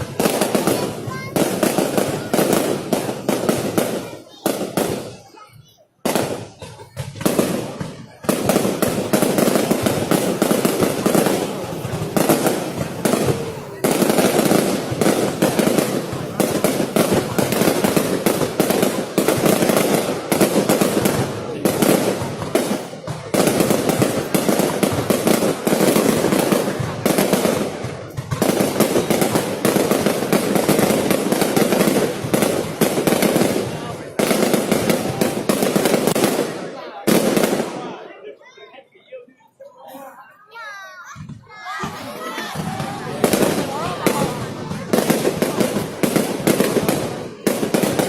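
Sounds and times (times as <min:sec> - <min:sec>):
fireworks crackling: 0:00.0 - 0:38.1, 0:40.8 - 0:48.0.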